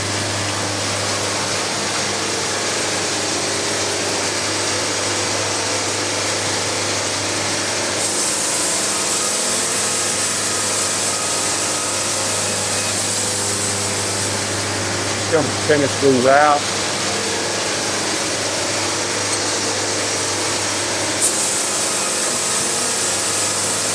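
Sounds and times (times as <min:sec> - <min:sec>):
band saw cutting log: 0:00.0 - 0:23.9
sawmill engine humming: 0:00.0 - 0:23.9.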